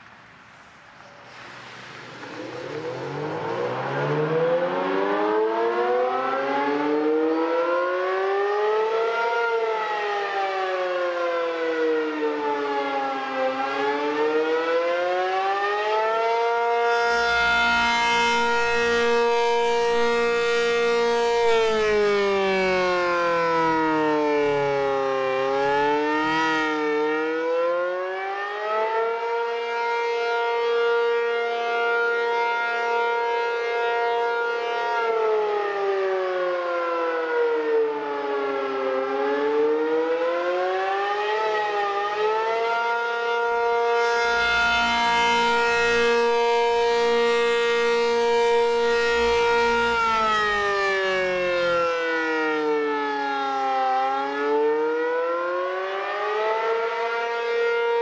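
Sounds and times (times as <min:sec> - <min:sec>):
rotating siren wailing: 0:01.1 - 0:58.0.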